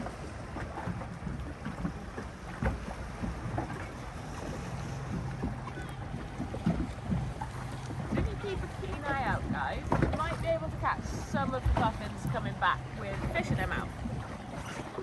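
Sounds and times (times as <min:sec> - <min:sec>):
boat engine humming: 0:00.0 - 0:15.0
wind buffeting microphone: 0:00.0 - 0:15.0.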